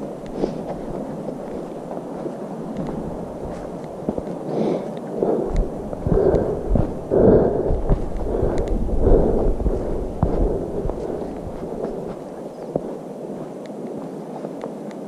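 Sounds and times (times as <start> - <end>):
footsteps on gravel trail: 0.0 - 15.0
wind rumbling on microphone: 0.0 - 15.0.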